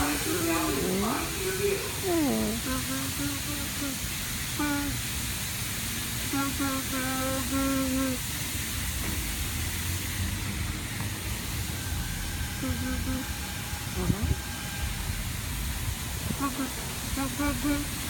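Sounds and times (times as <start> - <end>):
steady hissing rush: 0.0 - 18.0.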